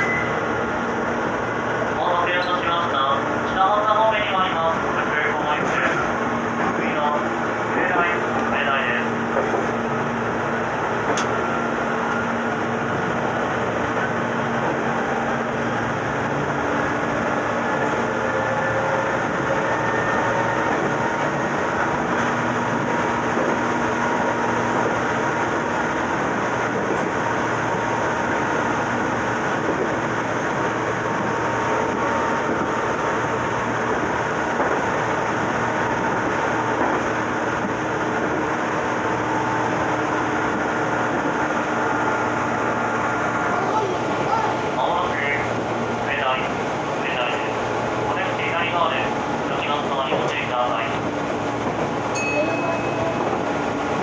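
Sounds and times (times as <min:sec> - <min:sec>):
train wheel-and-rail running noise: 0:00.0 - 0:54.0.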